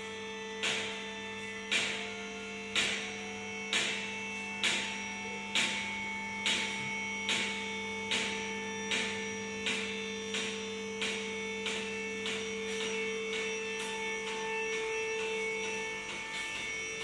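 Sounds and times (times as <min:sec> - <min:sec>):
pump motor humming: 0:00.0 - 0:17.0.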